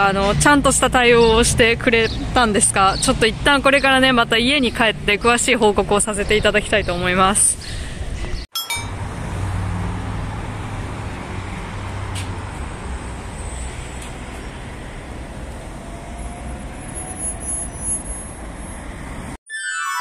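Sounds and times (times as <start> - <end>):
street traffic rumble: 0.0 - 19.4.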